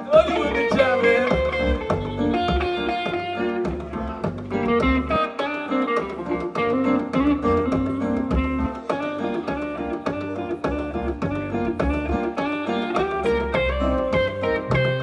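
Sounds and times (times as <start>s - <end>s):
guitar notes: 0.0s - 15.0s
live band playing: 0.0s - 15.0s.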